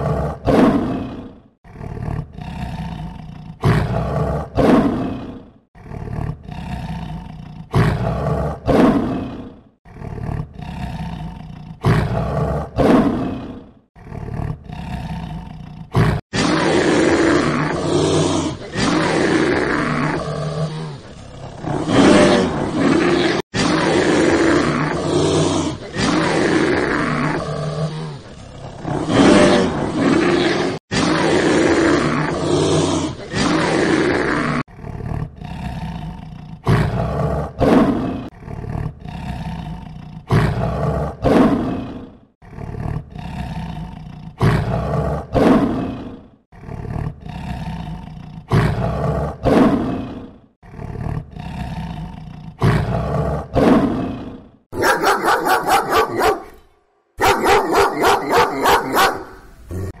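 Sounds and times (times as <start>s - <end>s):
lion roaring: 0.0s - 60.0s.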